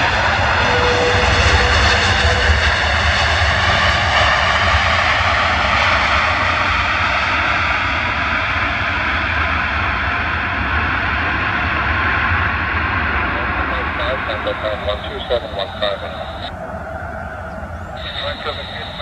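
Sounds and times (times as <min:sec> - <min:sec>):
jet engines reverse thrust roar: 0:00.0 - 0:19.0.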